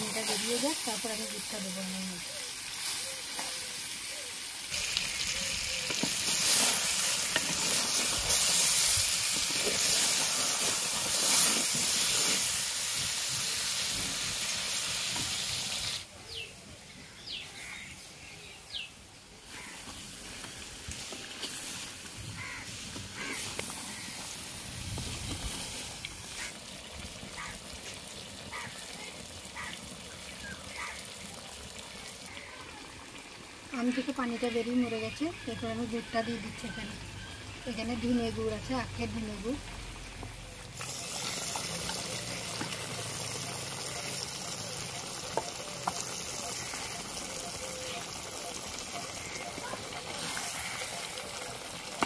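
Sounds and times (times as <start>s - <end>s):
mangoes sizzling in hot oil: 0.0s - 52.0s.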